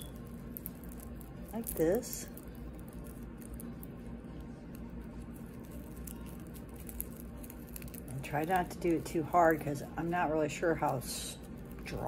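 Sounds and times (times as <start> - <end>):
dry seed head crackling: 0.0 - 12.0
steady low hum: 0.0 - 12.0.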